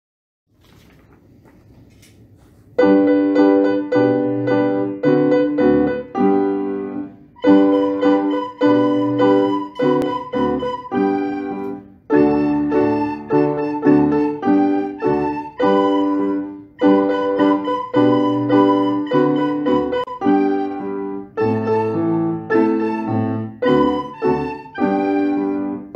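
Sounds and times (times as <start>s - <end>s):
piano playing short notes: 2.8s - 25.9s.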